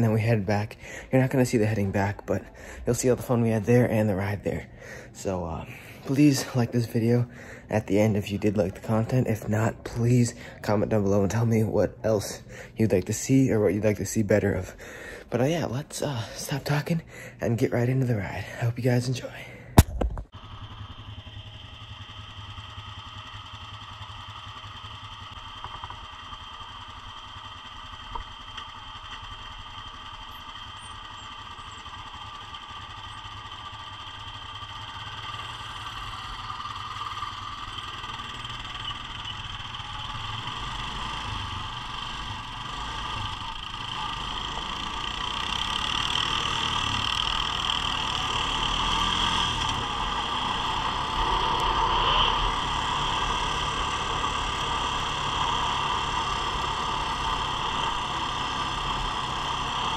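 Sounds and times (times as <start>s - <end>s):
atv engines idling: 0.0s - 19.6s, 20.4s - 59.9s.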